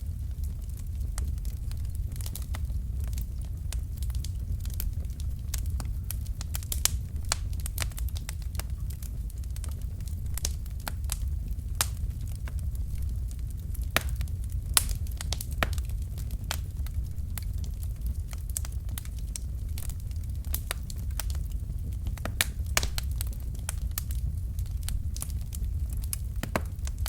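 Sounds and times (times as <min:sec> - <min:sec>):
logs crackling and popping: 0:00.0 - 0:27.0
low rumble of flames: 0:00.0 - 0:27.0.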